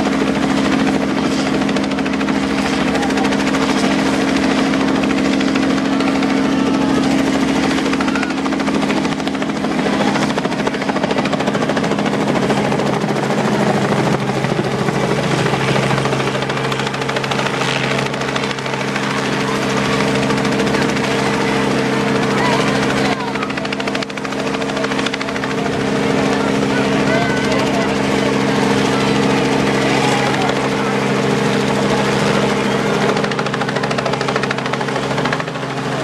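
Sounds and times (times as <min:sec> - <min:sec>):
helicopter hovering: 0:00.0 - 0:36.0.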